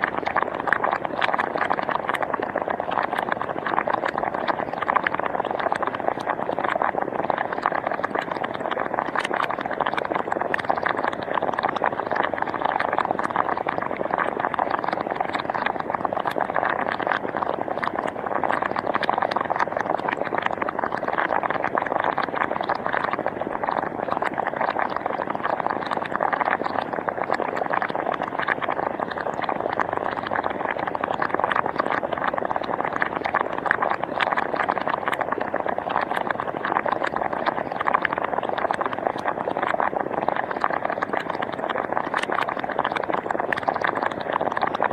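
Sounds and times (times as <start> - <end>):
hot spring water bubbling: 0.0 - 44.9.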